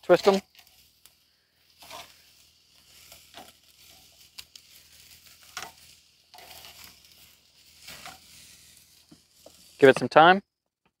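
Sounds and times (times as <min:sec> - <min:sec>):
steaks sizzling on a grill: 0:00.0 - 0:10.4.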